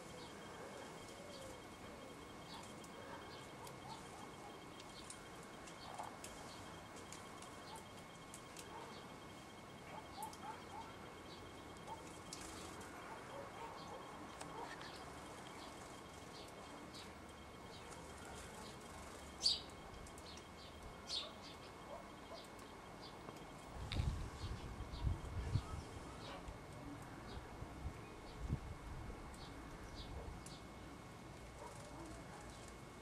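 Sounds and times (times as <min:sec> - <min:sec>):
sparrows chirping: 0:00.0 - 0:26.5.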